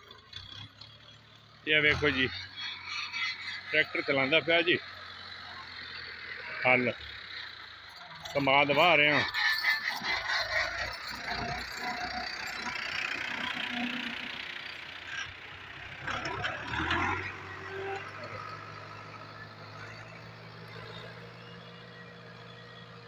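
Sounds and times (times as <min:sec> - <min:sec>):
tractor engine hum: 0:00.0 - 0:23.0.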